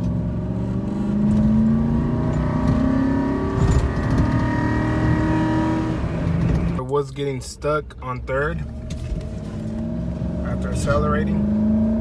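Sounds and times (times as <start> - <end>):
truck engine accelerating hard: 0.0 - 6.8, 8.6 - 12.0.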